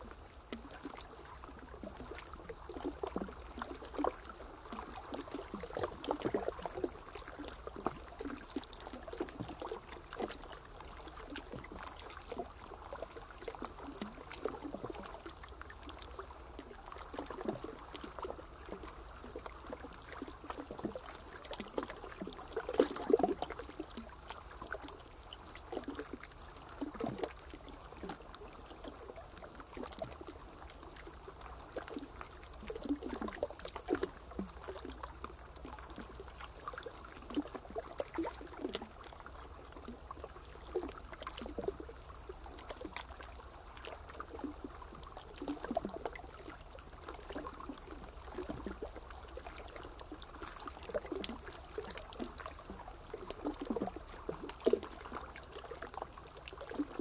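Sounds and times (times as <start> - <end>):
small splashes: 0.0 - 57.0
water trickling and lapping: 0.0 - 57.0.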